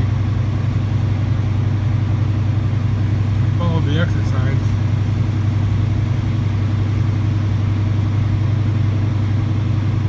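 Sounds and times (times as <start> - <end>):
truck diesel engine droning: 0.0 - 10.0.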